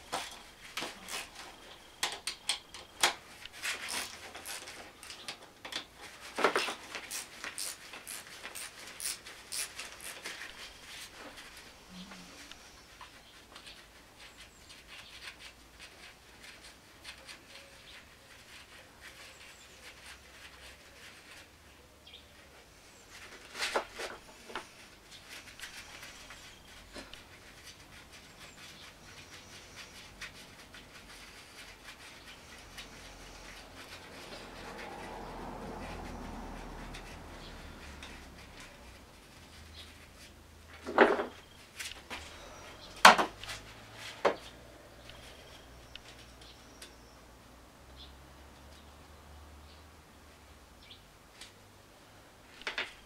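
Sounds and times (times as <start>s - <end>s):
soft rustling: 3.2s - 47.3s.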